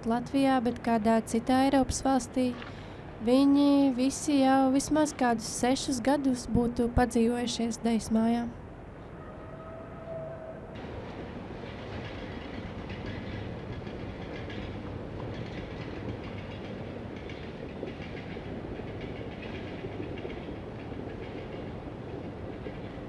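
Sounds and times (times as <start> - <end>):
outdoor rumbling background noise: 0.0 - 23.0.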